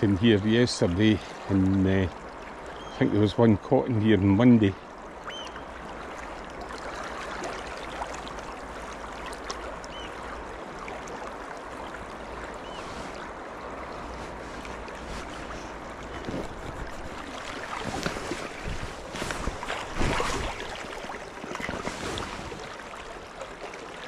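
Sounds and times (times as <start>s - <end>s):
river water rushing: 4.6s - 24.0s.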